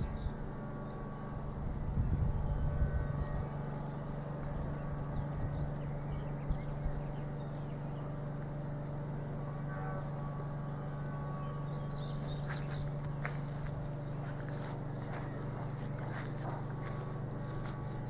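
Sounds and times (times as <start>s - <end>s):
woodworking machine humming: 0.0s - 18.0s.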